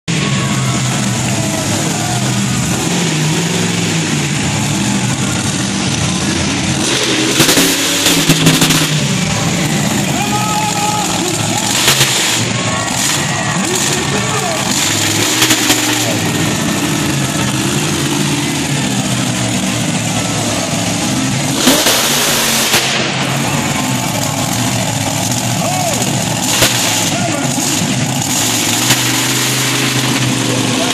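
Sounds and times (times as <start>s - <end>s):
monster truck engine revving: 0.0s - 30.9s
loud burst of noise: 0.1s - 30.9s.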